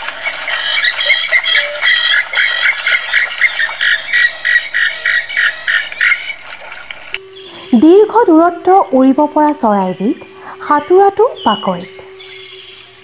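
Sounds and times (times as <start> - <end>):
bird calling harsh notes: 0.0 - 13.0.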